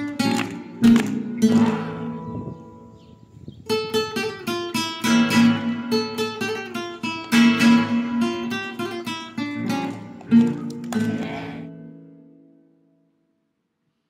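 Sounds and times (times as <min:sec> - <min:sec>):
flamenco guitar playing: 0:00.0 - 0:13.0.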